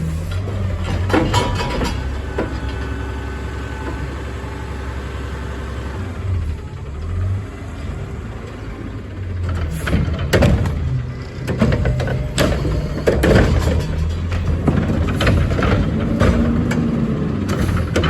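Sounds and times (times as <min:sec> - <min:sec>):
garbage truck diesel engine: 0:00.0 - 0:18.0.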